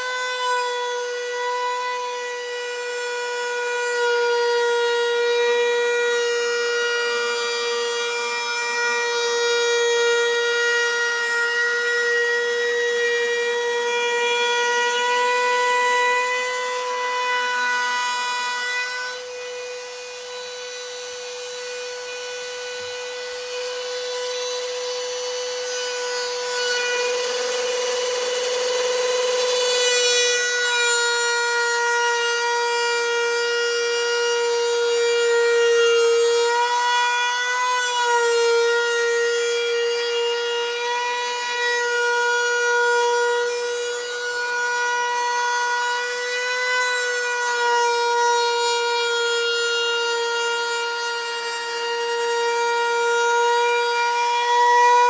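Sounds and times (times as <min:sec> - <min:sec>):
router whining cutting wood: 0:00.0 - 0:55.0.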